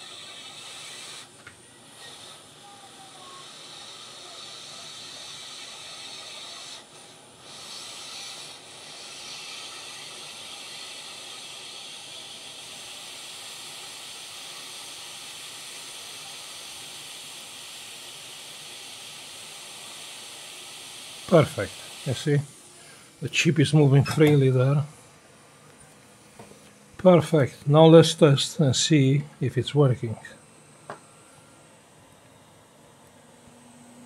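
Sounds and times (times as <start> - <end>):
hot air blower hissing: 0.0 - 34.0.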